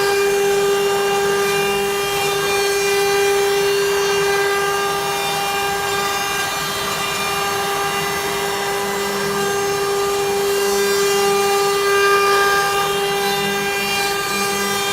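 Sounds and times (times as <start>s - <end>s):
router spindle whining carving wood: 0.0s - 14.9s.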